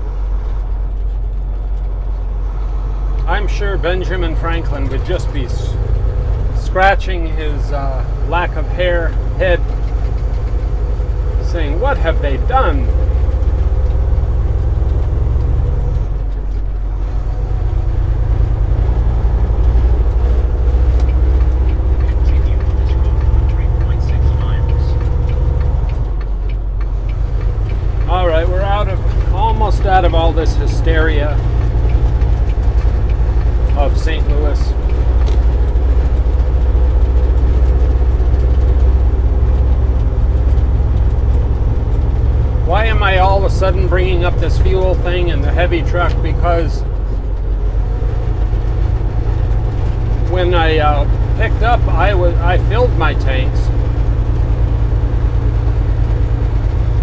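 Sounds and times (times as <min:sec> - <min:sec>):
diesel truck engine droning: 0:00.0 - 0:57.0
road noise: 0:00.0 - 0:57.0.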